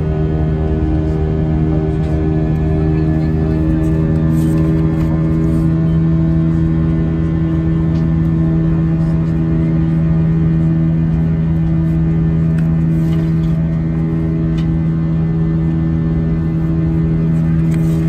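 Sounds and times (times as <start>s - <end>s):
aircraft cabin engine drone: 0.0s - 18.0s.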